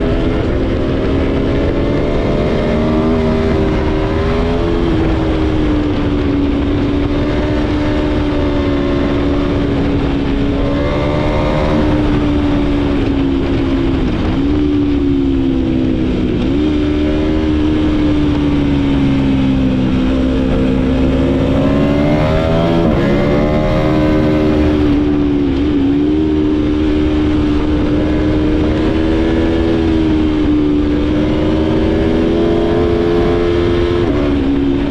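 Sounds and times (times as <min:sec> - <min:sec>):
motorcycle engine while riding: 0:00.0 - 0:34.9.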